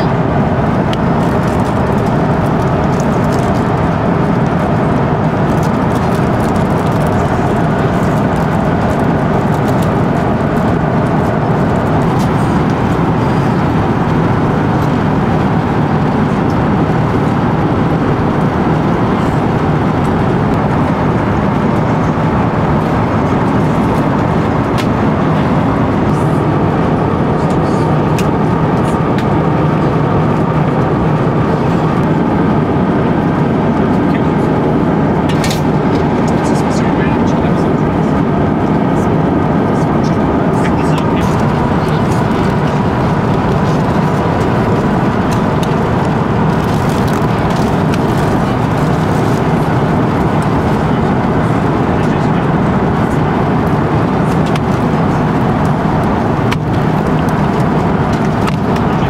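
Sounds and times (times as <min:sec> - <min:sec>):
airliner cabin engine rush: 0:00.0 - 0:59.0.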